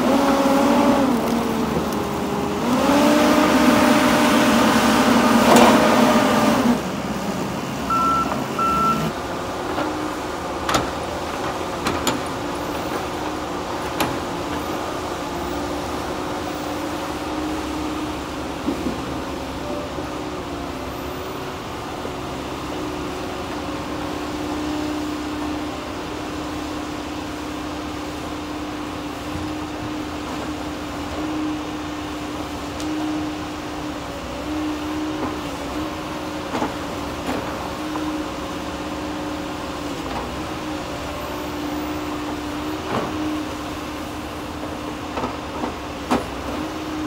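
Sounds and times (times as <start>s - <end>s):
diesel engine under load: 0.0s - 47.0s.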